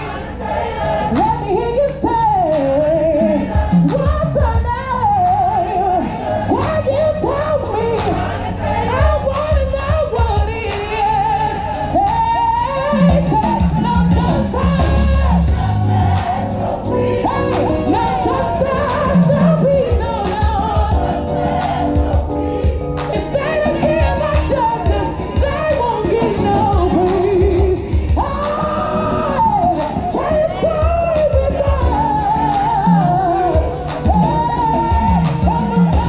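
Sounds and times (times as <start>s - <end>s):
gospel choir singing with band: 0.0s - 36.0s
heavy bass notes: 2.3s - 36.0s.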